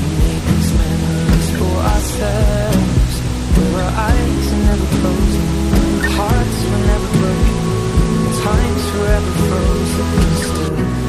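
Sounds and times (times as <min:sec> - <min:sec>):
music with steady beat: 0:00.0 - 0:11.0
wavering pitched melody: 0:02.1 - 0:11.0.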